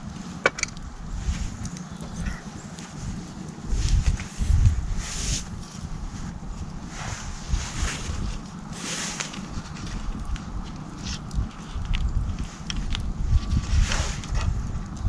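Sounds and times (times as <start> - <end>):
small clicks and rustles: 0.0 - 15.0
wind buffeting microphone: 0.0 - 15.0.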